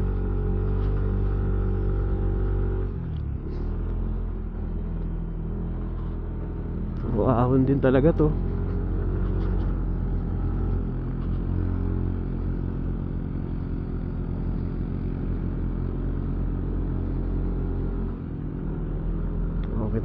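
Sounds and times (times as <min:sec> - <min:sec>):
vehicle engine under load: 0:00.0 - 0:20.0.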